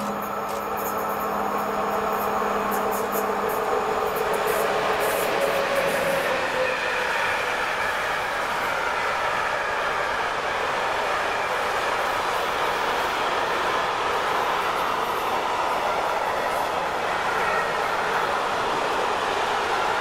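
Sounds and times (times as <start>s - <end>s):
freight train wheels rushing: 0.0s - 20.0s.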